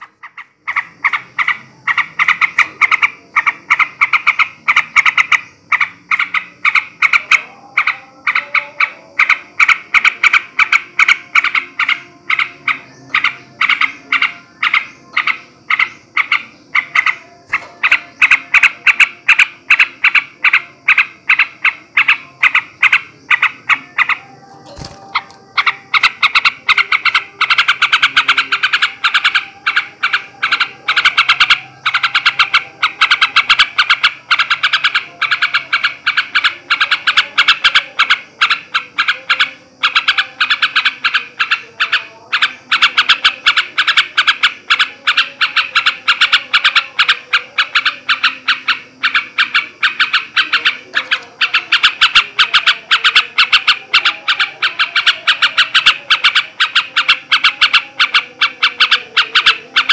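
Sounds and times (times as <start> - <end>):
bird chattering call: 0.0 - 59.9.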